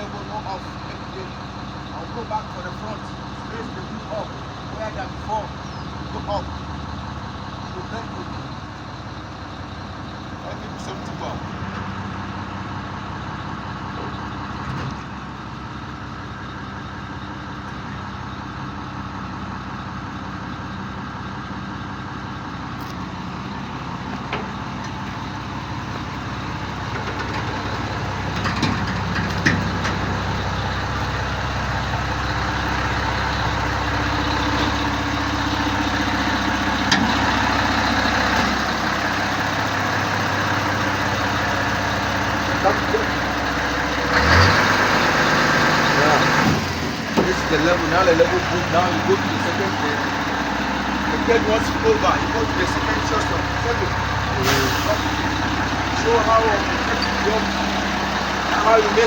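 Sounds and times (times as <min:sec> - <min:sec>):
crane engine running: 0:00.0 - 0:59.0.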